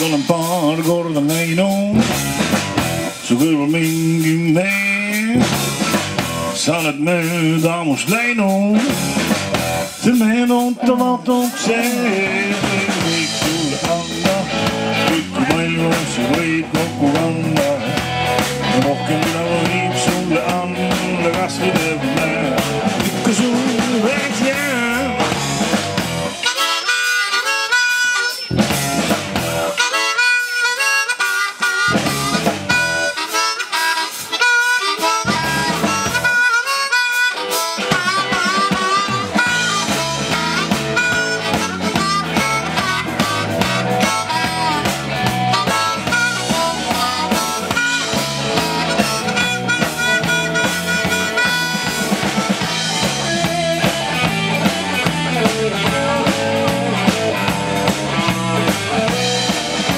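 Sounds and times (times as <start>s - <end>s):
amplified harmonica wailing: 0.0s - 59.9s
blues-rock band playing: 0.0s - 59.9s.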